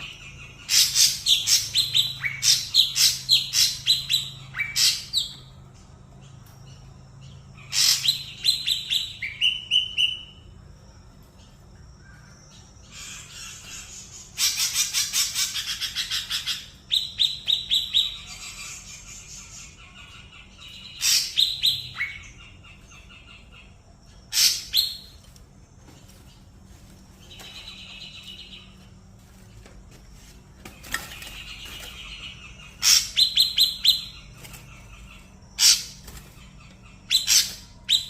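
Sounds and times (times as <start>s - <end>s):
bird singing high chirps: 0.0s - 25.2s, 30.8s - 38.0s.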